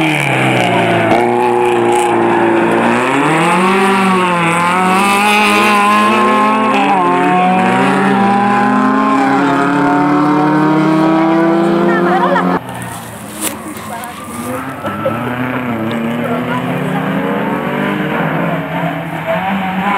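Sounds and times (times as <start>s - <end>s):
race car engine revving: 0.0s - 19.9s.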